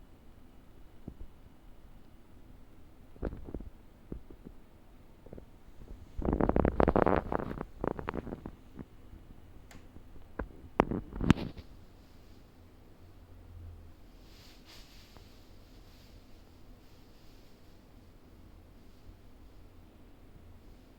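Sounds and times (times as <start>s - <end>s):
air conditioner clicking and crackling: 0.0s - 13.0s, 14.0s - 20.9s.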